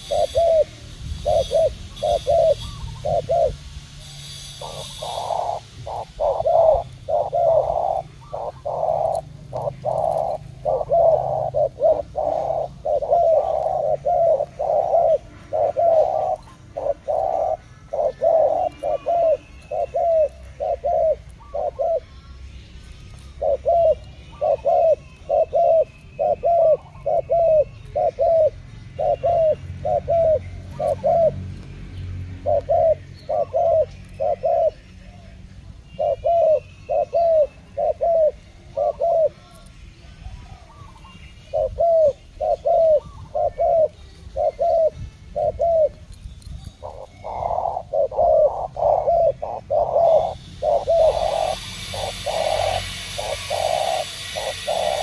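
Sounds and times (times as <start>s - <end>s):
doves cooing: 0.0s - 55.0s
small birds chirping: 0.0s - 55.0s.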